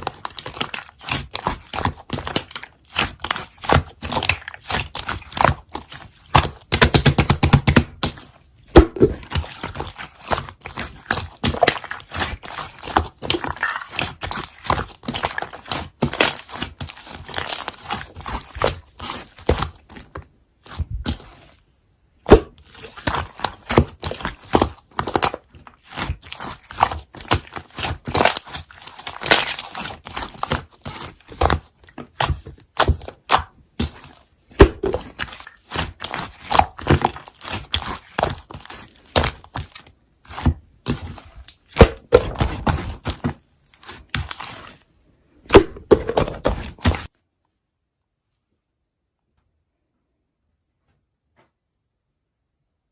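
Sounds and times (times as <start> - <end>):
slime crackling and popping: 0.0 - 21.4, 22.3 - 44.8.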